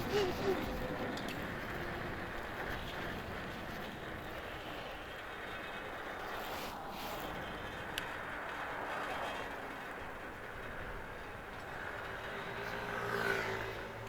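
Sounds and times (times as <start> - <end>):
road and traffic noise: 0.0 - 14.0.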